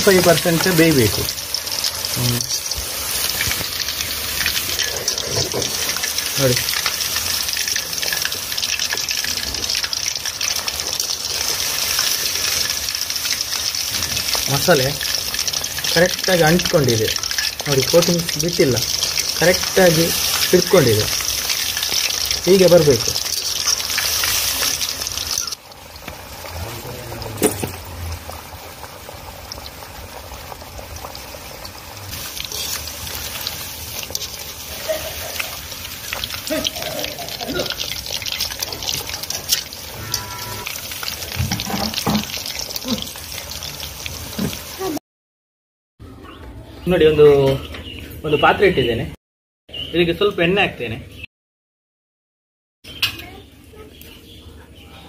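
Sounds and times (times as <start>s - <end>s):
chicken deep-frying in oil: 0.0s - 45.0s, 52.8s - 55.0s.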